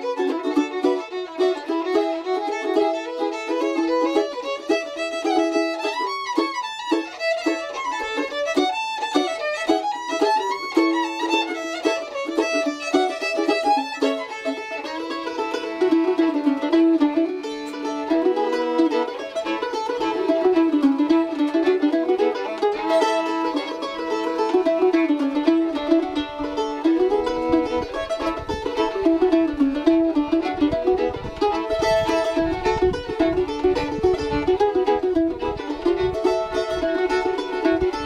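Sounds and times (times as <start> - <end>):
fiddle melody: 0.0 - 38.0
mandolin picking: 0.0 - 38.0.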